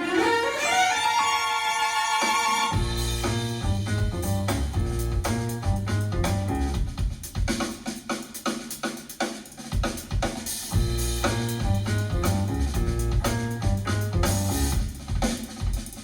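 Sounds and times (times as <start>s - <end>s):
music with drums and bass: 2.8s - 16.0s.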